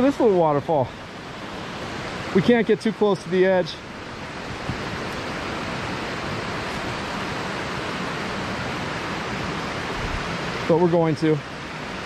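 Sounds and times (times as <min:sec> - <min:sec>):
small waterfall: 0:00.0 - 0:12.0
water rushing from dam outflow: 0:00.0 - 0:12.0.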